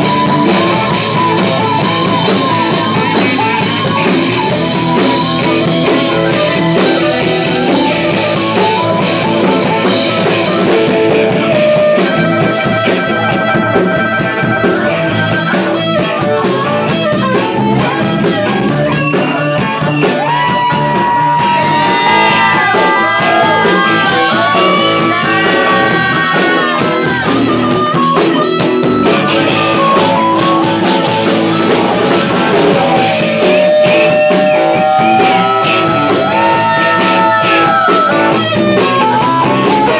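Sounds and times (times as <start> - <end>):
bending harmonica notes: 0.0 - 39.9
blues-rock band playing: 0.0 - 39.9.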